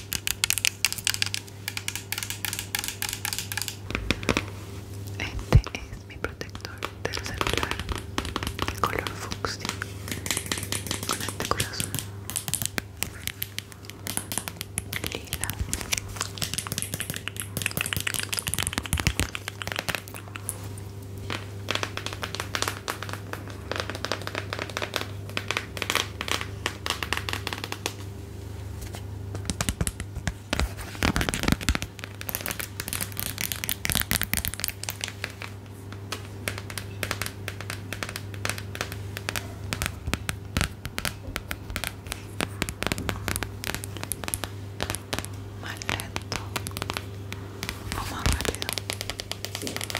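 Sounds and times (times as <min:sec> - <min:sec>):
close crinkling crackles: 0:00.0 - 0:49.9
steady low hum: 0:00.0 - 0:49.9.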